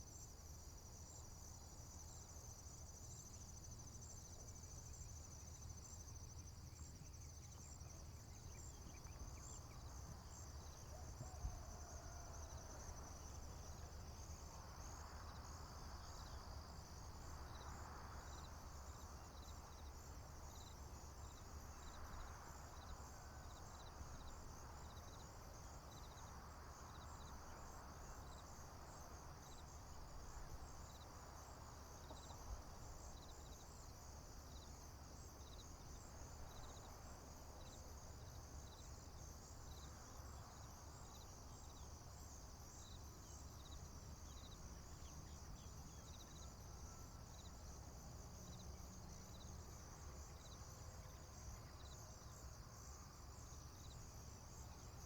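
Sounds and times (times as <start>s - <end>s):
crickets and insects trilling: 0.0s - 55.0s.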